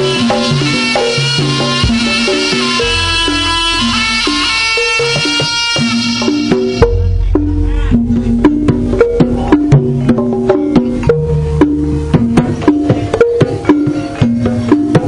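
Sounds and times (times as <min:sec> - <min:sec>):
gamelan melody of held notes: 0:00.0 - 0:15.0.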